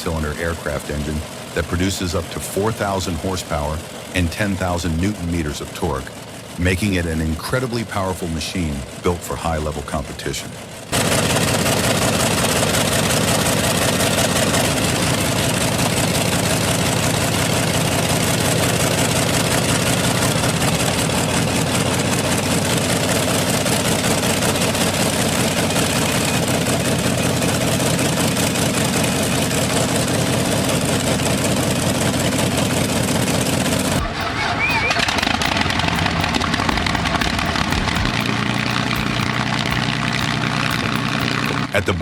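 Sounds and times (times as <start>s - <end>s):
radial aircraft engine running: 0.0s - 42.0s.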